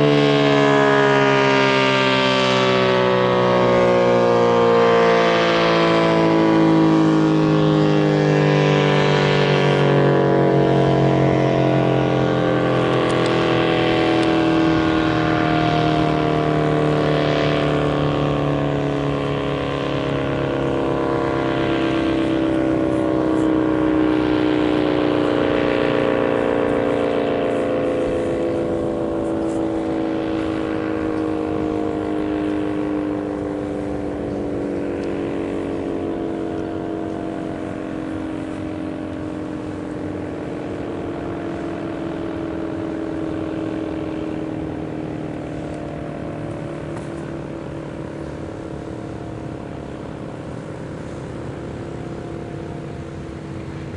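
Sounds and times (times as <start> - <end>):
warning siren wailing: 0.0 - 53.9.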